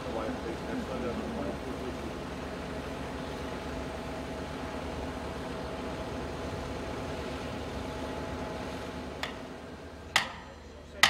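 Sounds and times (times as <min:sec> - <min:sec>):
diesel engine hum: 0:00.0 - 0:11.0.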